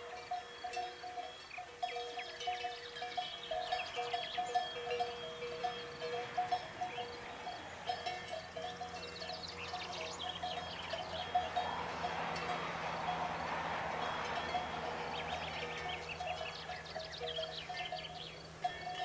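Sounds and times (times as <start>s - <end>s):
livestock bells clinking: 0.0s - 19.0s.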